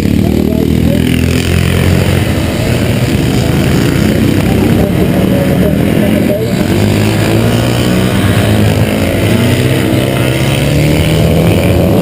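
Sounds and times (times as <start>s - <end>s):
loud engine running: 0.0s - 12.0s.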